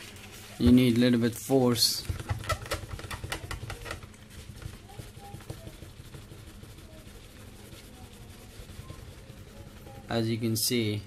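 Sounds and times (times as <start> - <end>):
low steady hum: 0.0 - 11.0
tissue scrubbing fridge door: 0.0 - 11.0.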